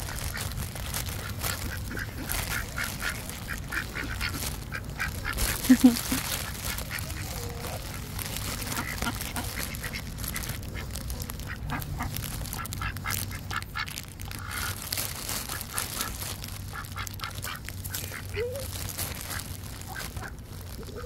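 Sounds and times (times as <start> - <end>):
ducks quacking: 0.0 - 21.0.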